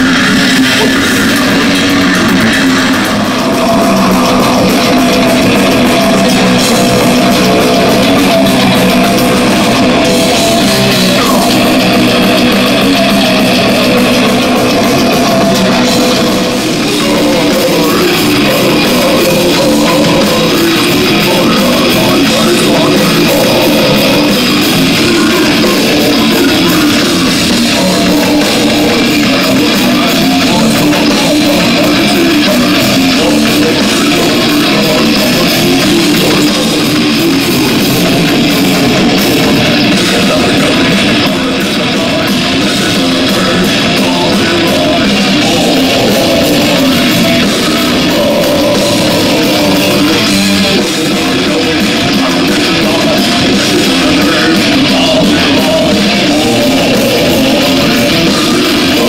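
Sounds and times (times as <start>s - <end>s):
live metal band playing: 0.0s - 59.0s.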